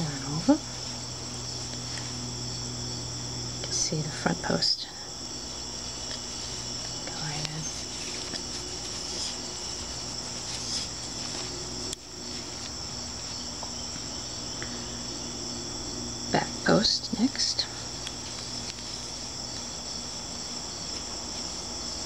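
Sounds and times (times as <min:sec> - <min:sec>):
insects chorus shrill drone: 0:00.0 - 0:22.0
low steady hum: 0:00.0 - 0:22.0.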